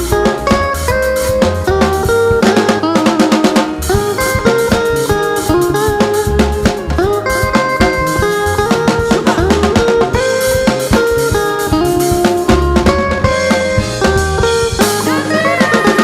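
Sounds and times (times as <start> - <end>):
bass line: 0.0 - 16.0
drum kit beat: 0.0 - 16.0
guitar: 0.0 - 16.0.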